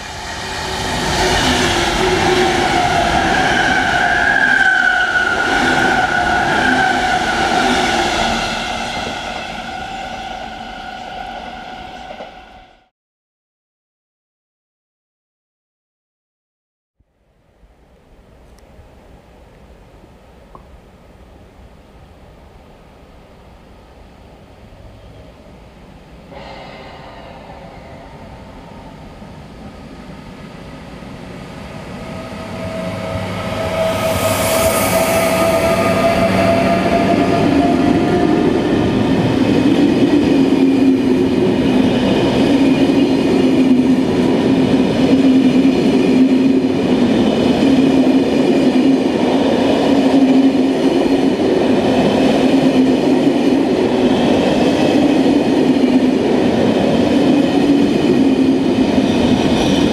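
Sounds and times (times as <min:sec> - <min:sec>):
electric locomotive whine: 0:00.0 - 0:12.9, 0:21.2 - 0:59.9
train wheels rumbling on rail: 0:00.0 - 0:12.9, 0:24.0 - 0:59.9.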